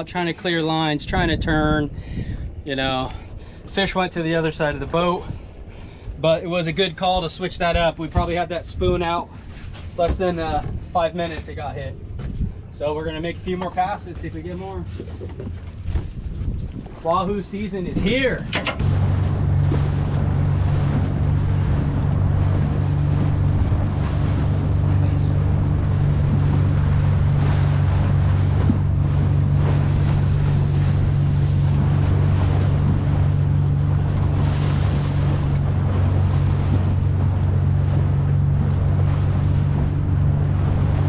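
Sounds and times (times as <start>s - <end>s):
boat engine humming: 0.0s - 41.0s
water rushing past hull: 0.0s - 41.0s
wind buffeting microphone: 0.0s - 41.0s.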